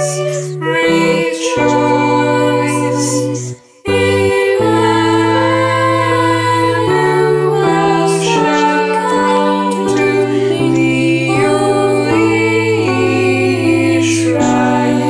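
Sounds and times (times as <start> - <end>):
choir singing a carol: 0.0 - 15.0.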